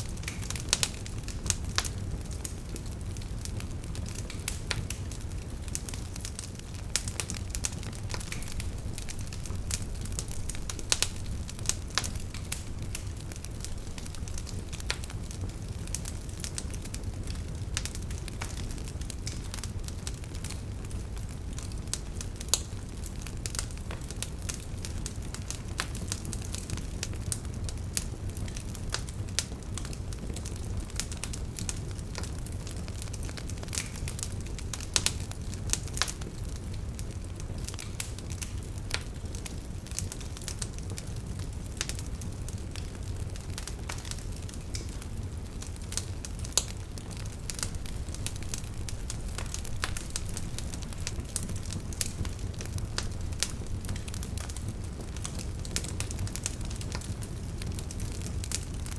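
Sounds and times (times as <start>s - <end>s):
fire crackling: 0.0s - 58.9s.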